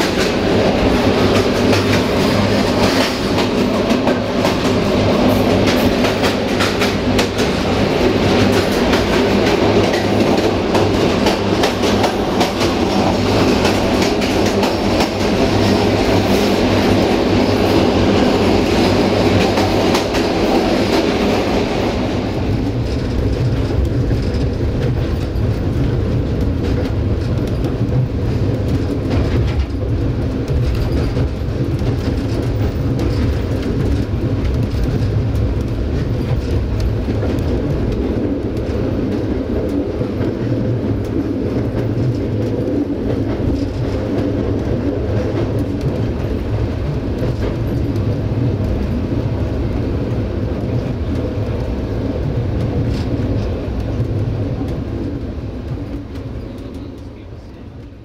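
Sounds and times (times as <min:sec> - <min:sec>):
train carriage rumbling on track: 0:00.0 - 0:58.0.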